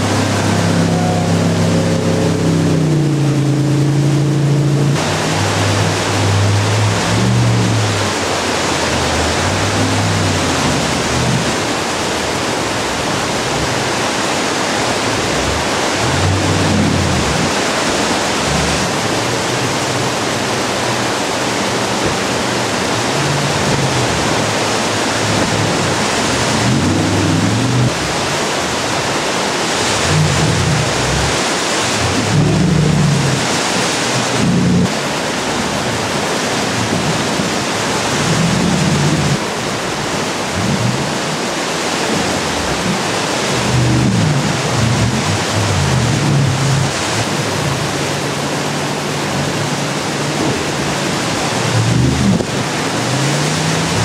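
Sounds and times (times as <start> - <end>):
boat engine revving: 0.0 - 54.0
whitewater rapids rushing: 0.0 - 54.0.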